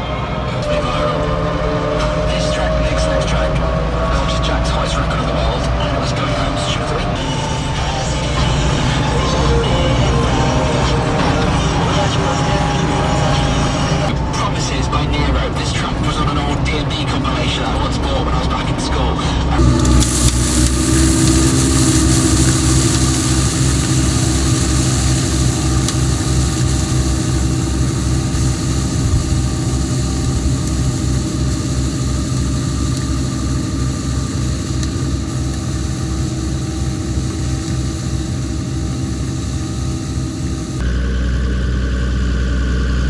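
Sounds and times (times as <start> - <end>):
tractor diesel engine running: 0.1 - 14.8, 19.6 - 43.0.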